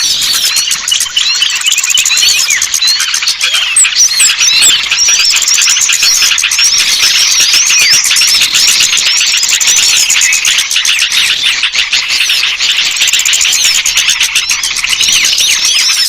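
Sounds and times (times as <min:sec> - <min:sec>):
small birds chirping and twittering: 0:00.0 - 0:16.0.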